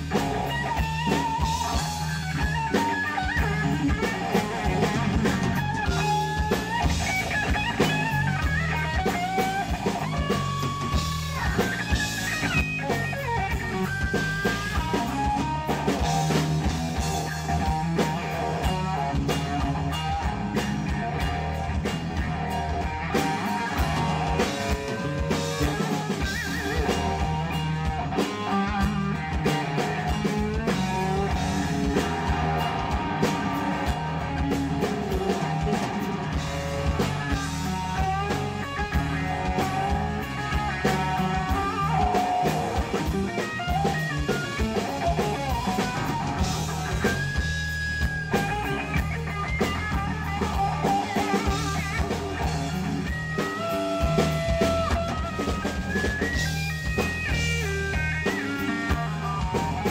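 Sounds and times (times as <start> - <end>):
drum kit: 0.0 - 59.9
electric bass: 0.0 - 59.9
electric guitar solo: 0.0 - 59.9.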